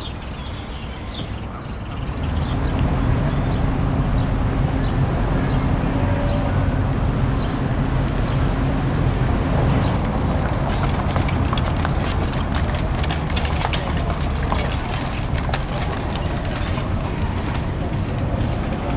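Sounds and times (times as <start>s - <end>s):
vehicle engines running: 0.0s - 18.9s.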